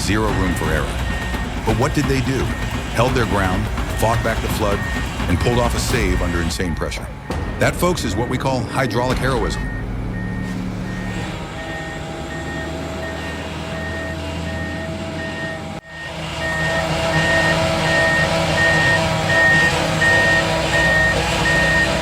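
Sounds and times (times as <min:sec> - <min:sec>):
backup alarm beeping: 0:00.0 - 0:22.0
engine running: 0:00.0 - 0:22.0.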